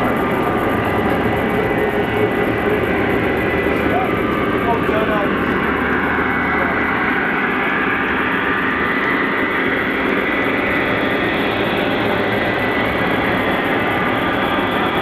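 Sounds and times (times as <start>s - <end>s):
electric motor hum: 0.0s - 15.0s
metal wheels rumbling on track: 0.0s - 15.0s.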